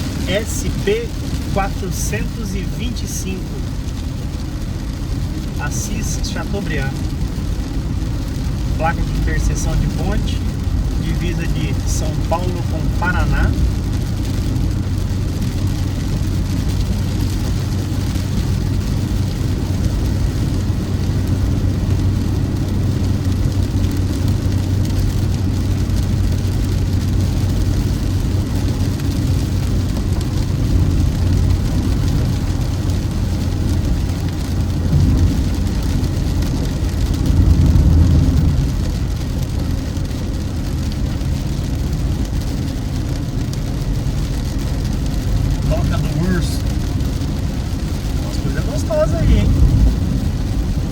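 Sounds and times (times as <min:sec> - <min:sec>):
car engine and tyre hum: 0:00.0 - 0:50.9.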